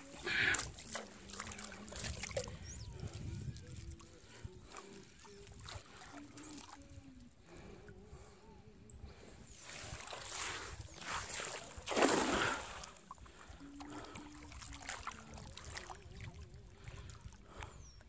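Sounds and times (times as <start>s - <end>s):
water splashing beside boat: 0.0s - 8.2s, 9.3s - 18.0s.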